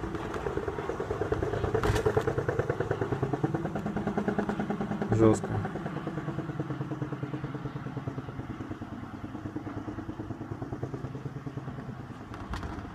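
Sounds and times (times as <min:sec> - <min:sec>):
steady low hum: 0:00.0 - 0:12.9
wire fluttering in the wind: 0:00.0 - 0:12.9.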